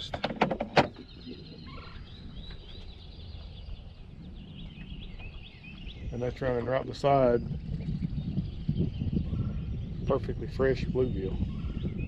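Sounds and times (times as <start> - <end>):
low background rumble: 0.0 - 10.7
birds chirping: 0.0 - 12.0.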